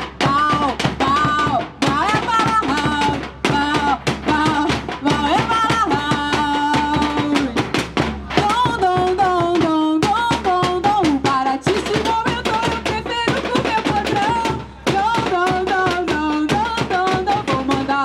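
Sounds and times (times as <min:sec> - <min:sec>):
drumming and percussion: 0:00.0 - 0:18.0.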